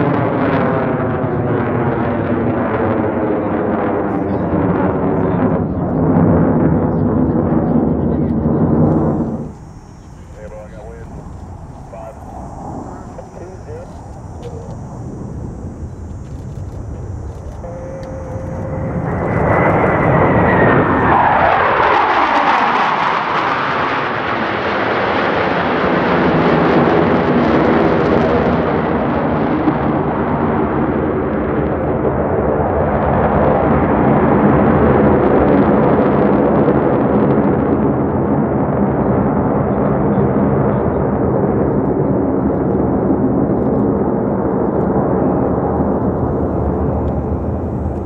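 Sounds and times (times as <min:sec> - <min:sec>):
jet engines roaring past: 0:00.0 - 0:48.0.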